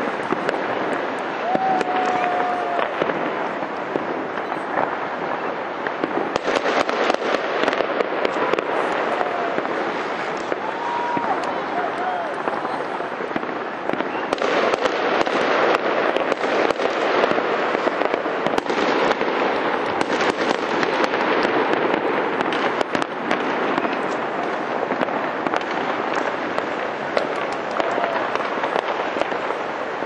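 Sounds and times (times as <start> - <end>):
fireworks bangs: 0.0 - 30.0
fireworks crackle: 0.0 - 30.0.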